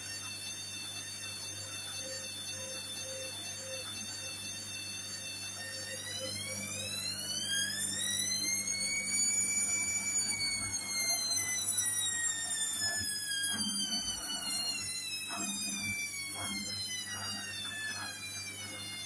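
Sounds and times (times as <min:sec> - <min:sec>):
washing machine drum whining: 0:00.0 - 0:19.0.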